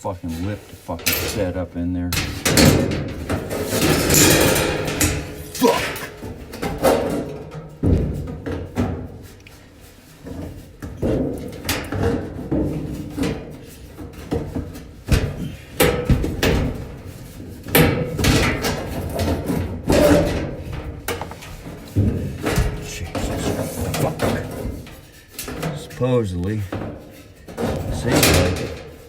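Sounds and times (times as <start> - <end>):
sheet-metal panel knocks and scrapes: 2.1 - 25.8, 26.7 - 29.0.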